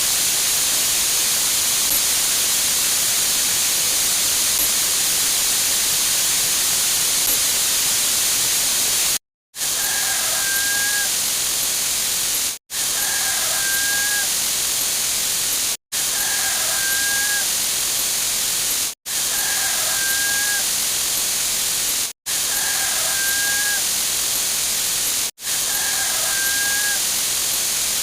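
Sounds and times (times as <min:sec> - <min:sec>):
loud hiss-like noise: 0:00.0 - 0:28.0.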